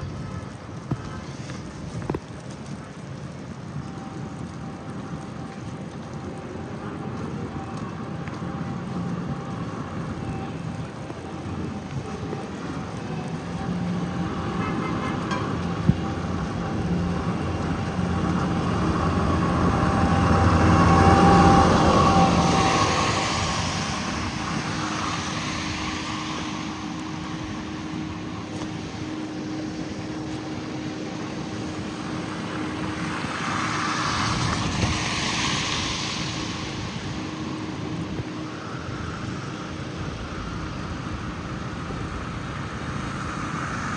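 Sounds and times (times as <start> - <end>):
street traffic: 0.0 - 43.9.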